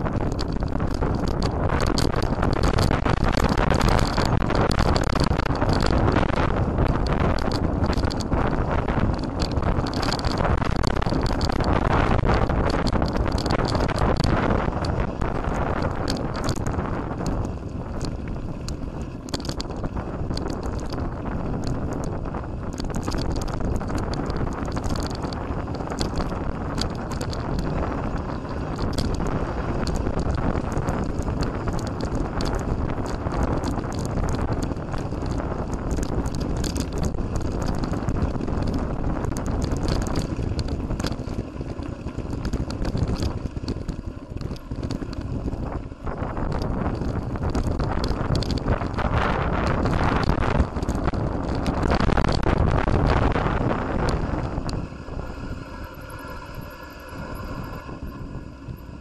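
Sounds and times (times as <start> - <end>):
bike tyre and frame rattle: 0.0 - 59.0
wind buffeting microphone: 0.0 - 59.0.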